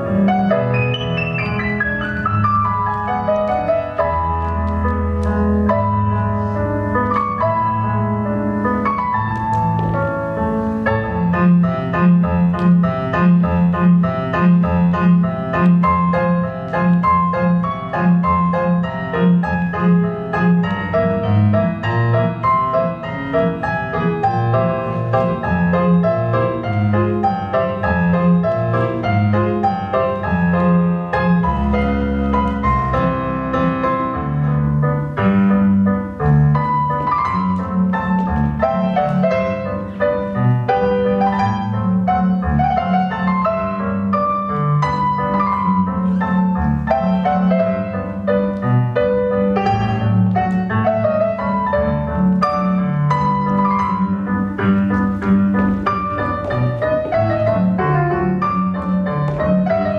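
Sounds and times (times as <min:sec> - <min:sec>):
classical piano music: 0:00.0 - 0:59.9.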